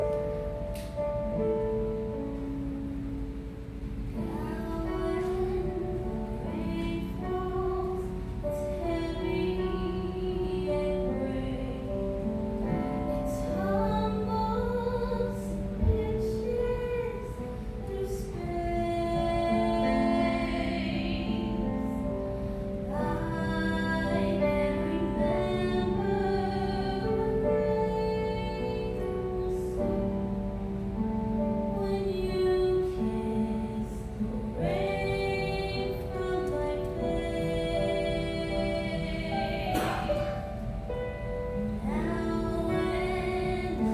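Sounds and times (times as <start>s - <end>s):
musical accompaniment: 0.0s - 43.9s
woman singing: 4.1s - 43.9s.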